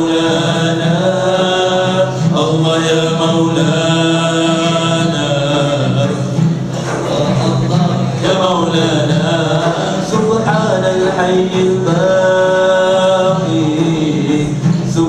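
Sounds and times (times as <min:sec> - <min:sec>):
men singing without instruments: 0:00.0 - 0:15.0.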